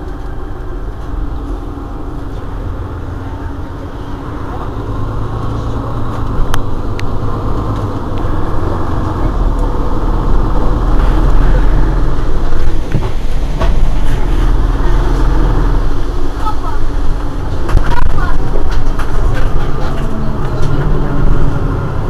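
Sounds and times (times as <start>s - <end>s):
bus engine drone: 0.0s - 22.0s.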